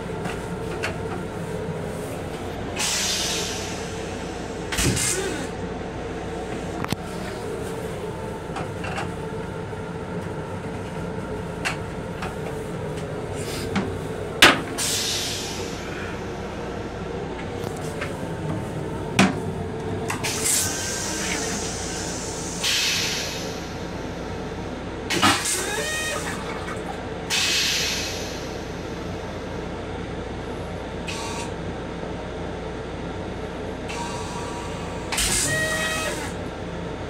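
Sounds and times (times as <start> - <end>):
railcar hum: 0.0 - 37.0.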